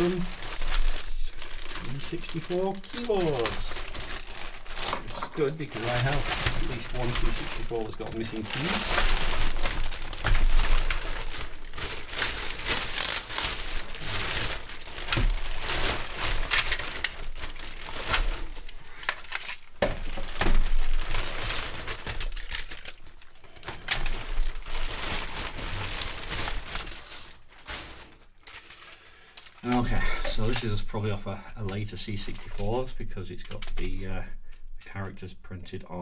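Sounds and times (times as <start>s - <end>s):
packaging crinkling: 0.0s - 30.8s.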